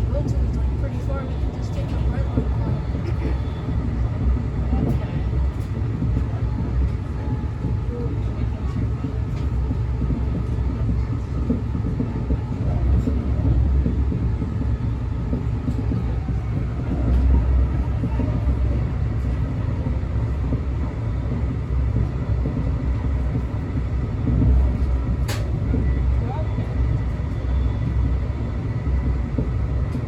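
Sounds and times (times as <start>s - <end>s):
passenger train rumbling: 0.0s - 30.0s.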